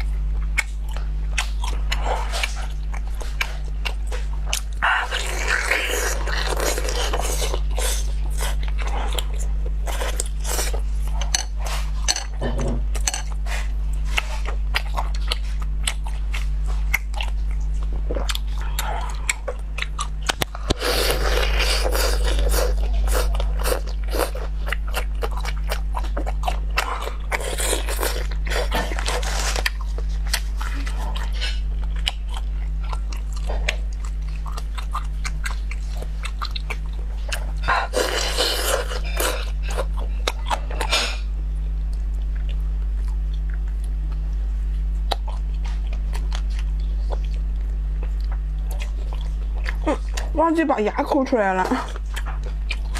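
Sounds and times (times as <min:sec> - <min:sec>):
close biting and chewing: 0:00.0 - 0:50.4, 0:51.7 - 0:52.9
steady low hum: 0:00.0 - 0:52.9.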